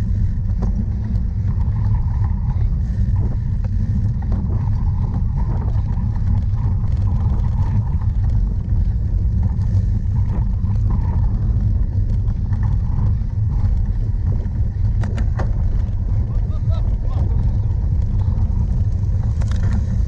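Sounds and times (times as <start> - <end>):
bicycle clicks and rattles: 0.0 - 20.0
wind buffeting microphone: 0.0 - 20.0.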